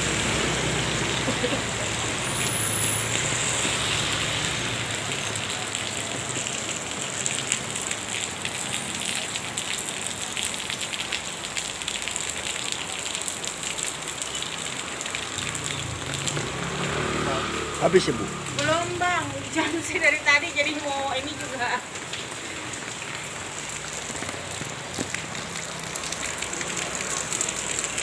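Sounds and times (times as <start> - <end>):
steady rain on hard surfaces: 0.0 - 28.0.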